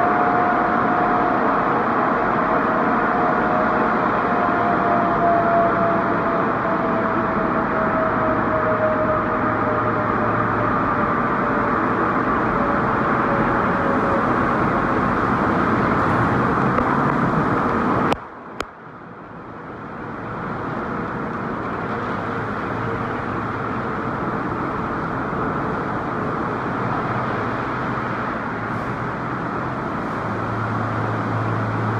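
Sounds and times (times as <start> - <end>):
car wash machinery rushing: 1.8 - 31.9.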